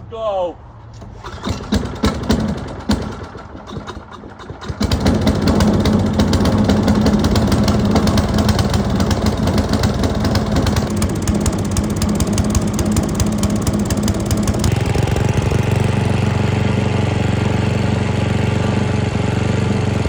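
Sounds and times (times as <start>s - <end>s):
small gas engine starting and running: 0.8s - 20.0s.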